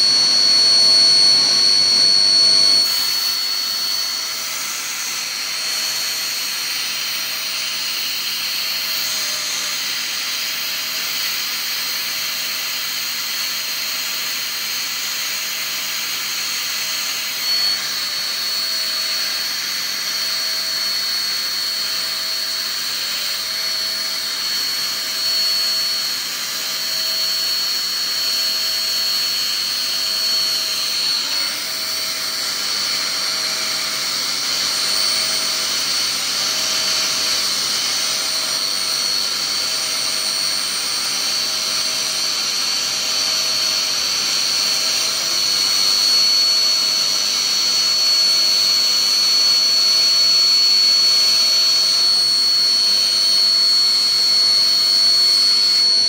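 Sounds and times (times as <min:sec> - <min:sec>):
milling machine spindle whine: 0:00.0 - 0:56.0.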